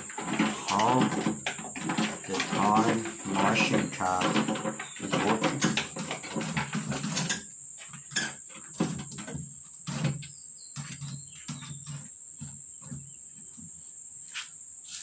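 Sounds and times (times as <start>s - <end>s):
soft knocks and bumps: 0.0s - 13.8s
crickets trilling: 0.0s - 15.0s.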